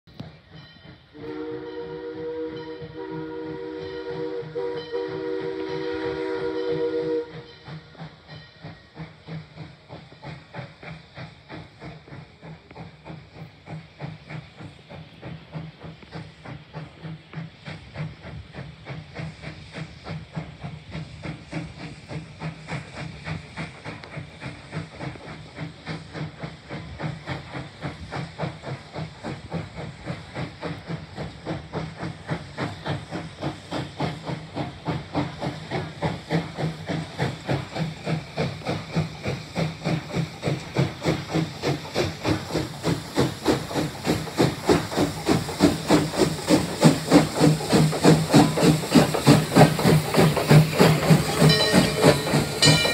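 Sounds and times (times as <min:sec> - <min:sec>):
steam locomotive chuffing: 0:00.1 - 0:52.9.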